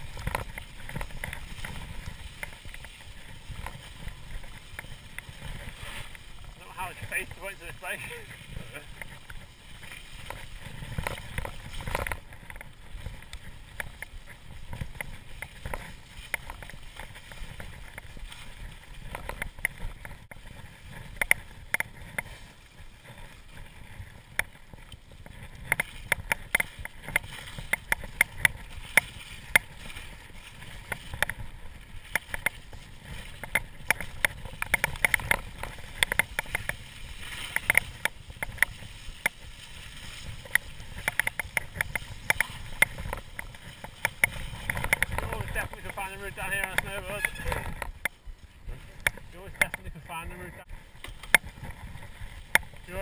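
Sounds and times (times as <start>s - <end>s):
bike rattling over bumps: 0.0s - 53.0s
tyres rolling through mud: 0.0s - 53.0s.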